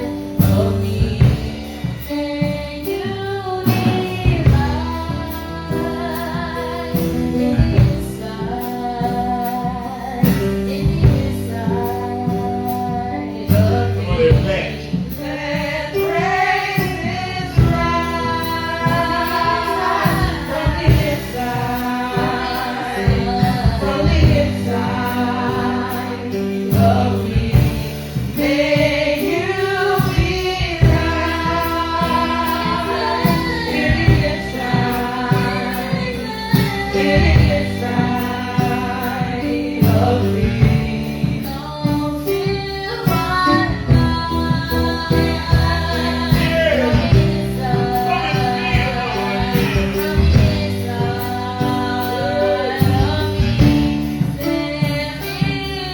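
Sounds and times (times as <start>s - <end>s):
band with bass and drums: 0.0s - 55.9s
gospel singers led by women: 0.0s - 55.9s.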